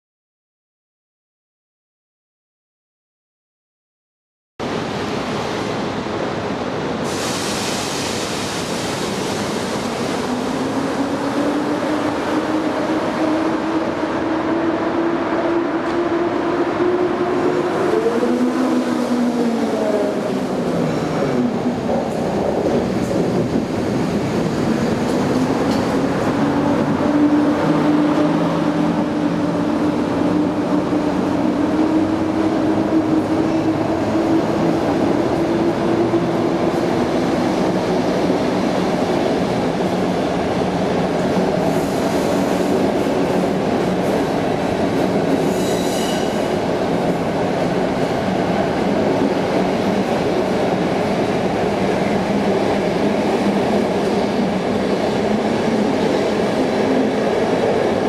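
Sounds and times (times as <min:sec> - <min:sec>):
train coaches rumbling: 0:04.7 - 0:58.0.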